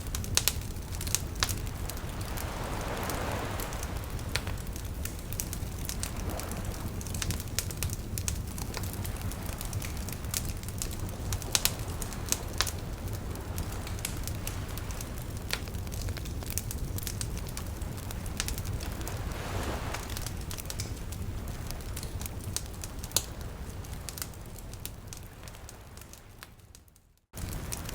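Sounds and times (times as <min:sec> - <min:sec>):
campfire crackling and popping: 0:00.0 - 0:27.9
fire low rumble: 0:00.0 - 0:27.9.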